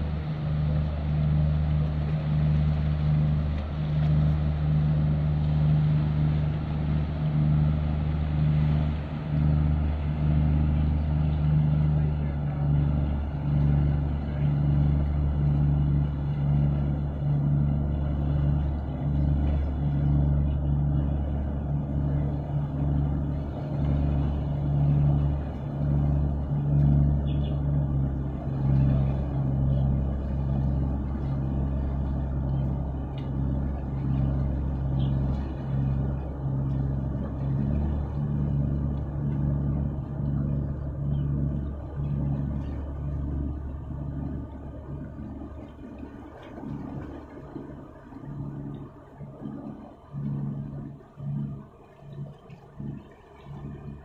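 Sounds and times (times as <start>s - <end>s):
ship diesel engine drone: 0.0s - 54.0s.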